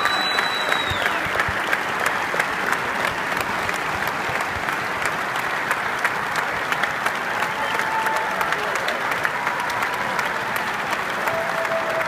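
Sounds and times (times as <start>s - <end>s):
close individual claps: 0.0s - 12.0s
crowd applauding: 0.0s - 12.0s.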